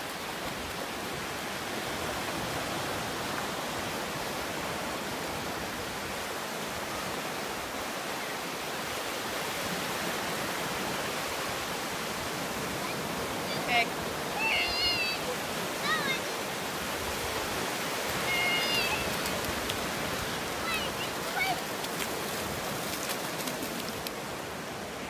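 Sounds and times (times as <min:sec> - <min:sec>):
small waves breaking on beach: 0:00.0 - 0:25.0.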